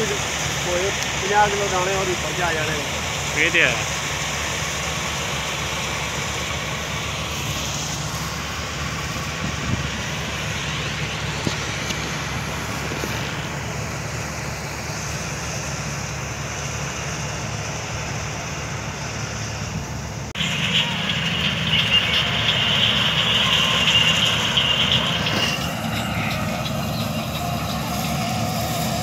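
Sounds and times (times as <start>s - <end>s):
combine harvester machinery drone: 0.0s - 29.0s.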